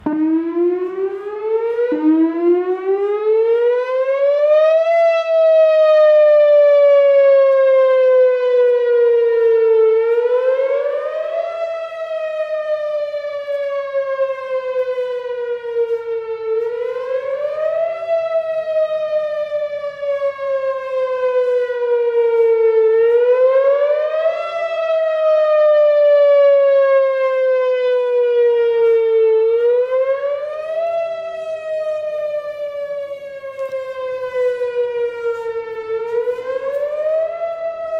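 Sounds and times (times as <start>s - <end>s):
electronic warning siren wailing: 0.0s - 37.9s.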